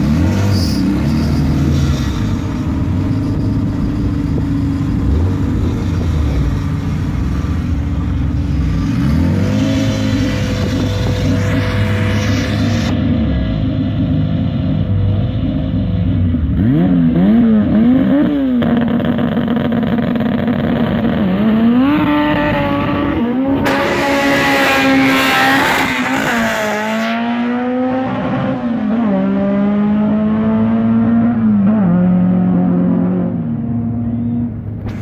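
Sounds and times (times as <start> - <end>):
car engine revving and accelerating: 0.0 - 35.0.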